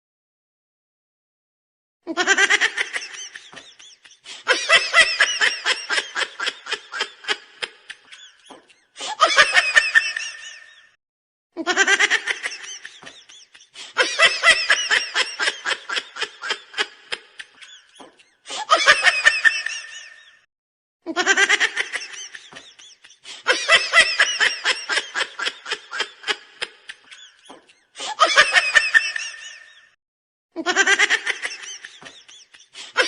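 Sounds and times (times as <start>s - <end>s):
laughter sound effect: 2.1s - 11.0s, 11.6s - 20.5s, 21.1s - 30.0s, 30.6s - 33.0s.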